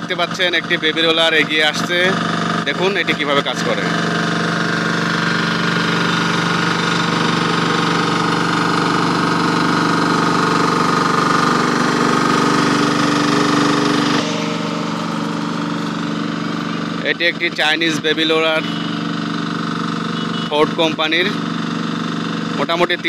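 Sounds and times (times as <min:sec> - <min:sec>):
road roller engine running: 0:00.0 - 0:23.0.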